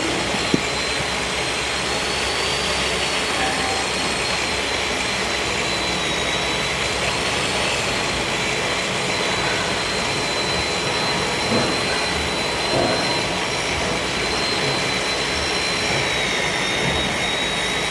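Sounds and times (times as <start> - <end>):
grinding machine whine: 0.0 - 17.9.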